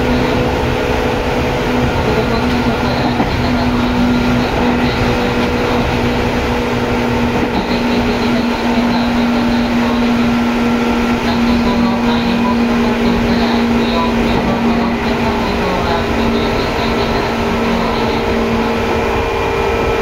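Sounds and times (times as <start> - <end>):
train drive hum: 0.0 - 20.0
train ride rumble: 0.0 - 20.0.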